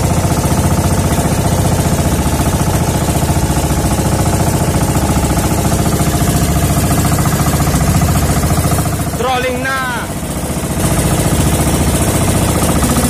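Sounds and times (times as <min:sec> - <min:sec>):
boat engine running steadily: 0:00.0 - 0:13.0.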